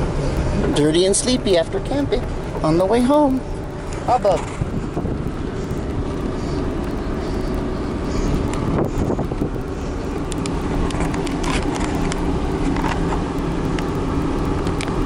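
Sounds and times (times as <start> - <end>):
engine and tyre rumble: 0.0 - 15.0
light ticks: 0.0 - 15.0.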